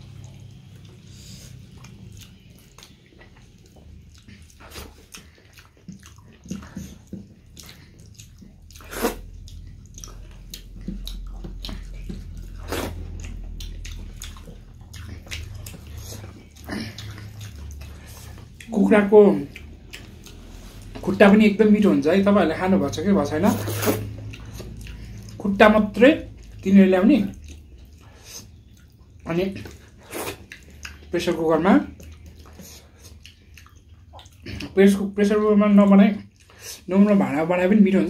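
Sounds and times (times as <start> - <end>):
wet chewing and lip smacks: 0.0 - 21.2, 23.2 - 34.8, 35.8 - 36.9
steady low hum: 0.0 - 34.8.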